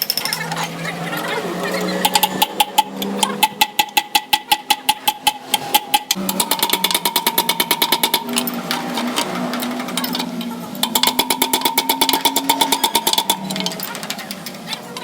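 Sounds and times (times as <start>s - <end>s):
machine clattering rapidly: 0.0s - 15.0s.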